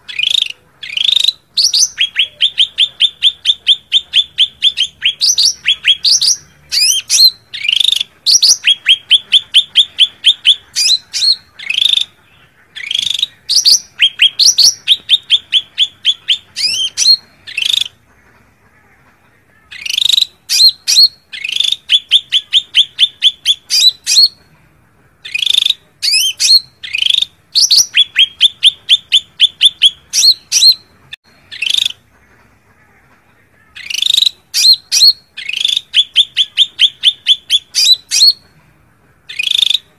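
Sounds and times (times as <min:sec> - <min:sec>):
bird sharp repeated chirps: 0:00.0 - 0:18.0, 0:19.7 - 0:24.5, 0:25.2 - 0:32.1, 0:33.7 - 0:38.5, 0:39.2 - 0:39.9.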